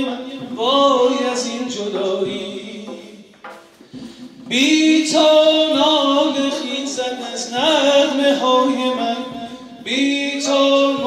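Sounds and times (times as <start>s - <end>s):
singing voice holding long notes: 0.0s - 3.3s, 4.4s - 11.0s.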